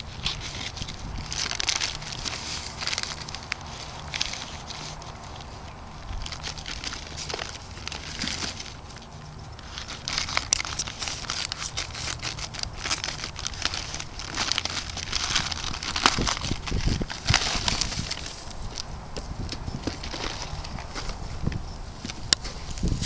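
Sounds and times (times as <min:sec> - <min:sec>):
paper wrapping crinkling and tearing: 0:00.0 - 0:23.0.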